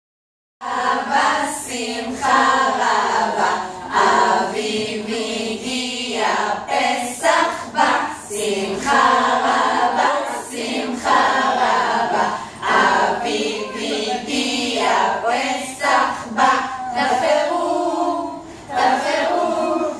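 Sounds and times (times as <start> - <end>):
women singing a cappella: 0.6 - 19.9.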